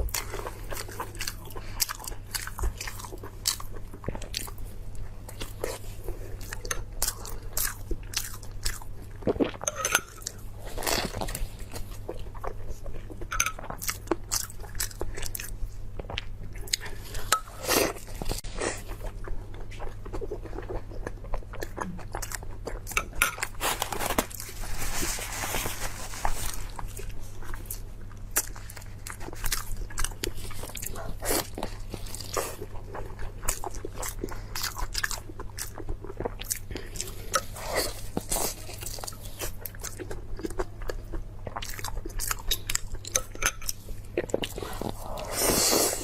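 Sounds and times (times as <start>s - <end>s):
chewing with crunching: 0.0s - 46.0s
low electrical hum: 0.0s - 46.0s.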